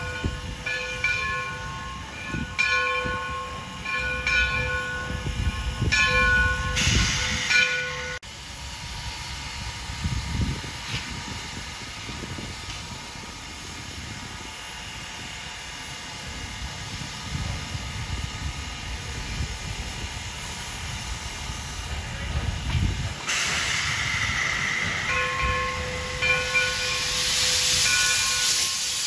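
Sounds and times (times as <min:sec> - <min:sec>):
steam hissing: 0:00.0 - 0:29.0.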